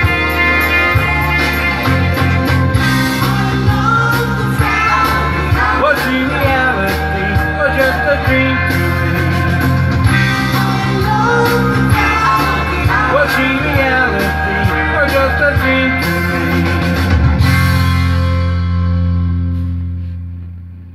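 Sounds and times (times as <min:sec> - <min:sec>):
pop rock song with vocals: 0:00.0 - 0:18.6.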